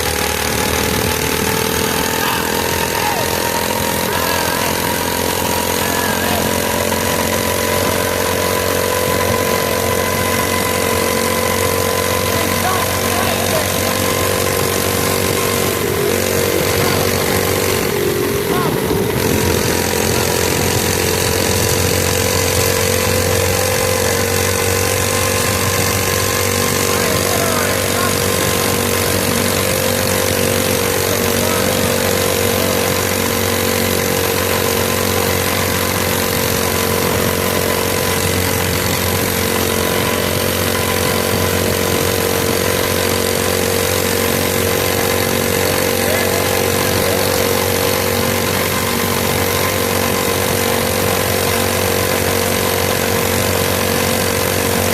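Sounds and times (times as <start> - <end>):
small engine running steadily: 0.0 - 54.9.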